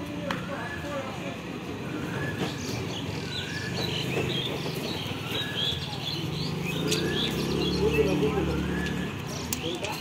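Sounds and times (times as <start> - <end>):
birds chirping: 0.5 - 10.0.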